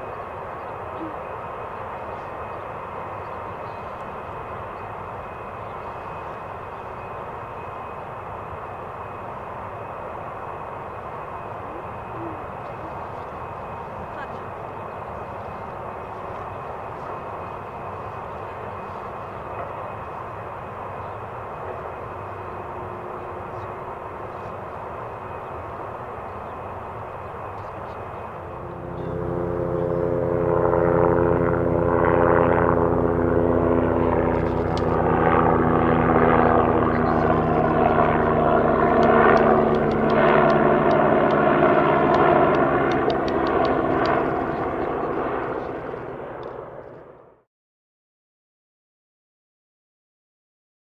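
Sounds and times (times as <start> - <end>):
jet engines whining: 0.0 - 47.3.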